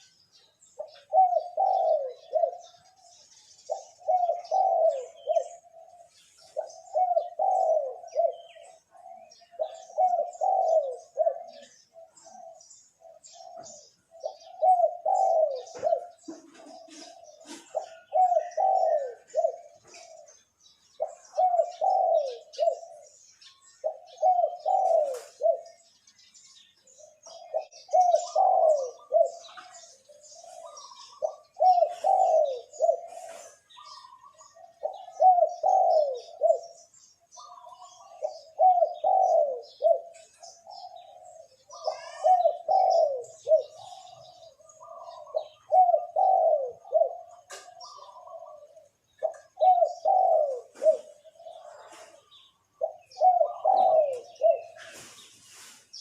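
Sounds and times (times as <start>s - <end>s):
dove cooing: 0.0s - 55.8s
small birds chirping: 0.0s - 56.0s.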